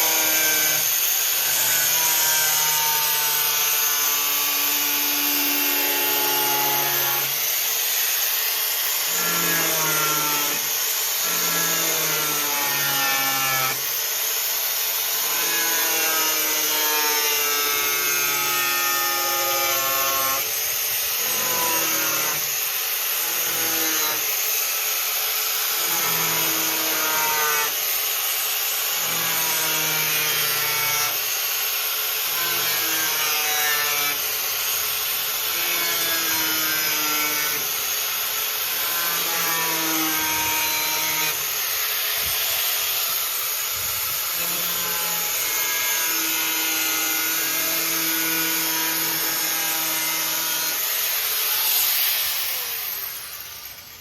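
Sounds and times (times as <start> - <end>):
angle grinder cutting steel: 0.0 - 54.0.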